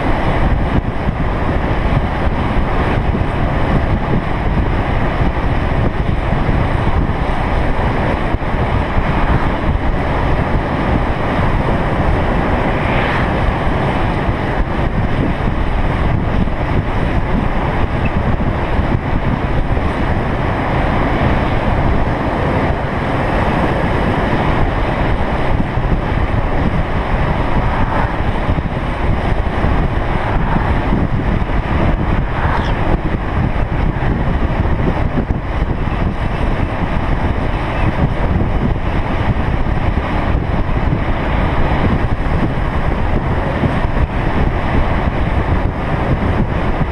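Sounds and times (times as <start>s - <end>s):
wheels rumbling on asphalt: 0.0s - 46.9s
wind buffeting microphone: 0.0s - 46.9s.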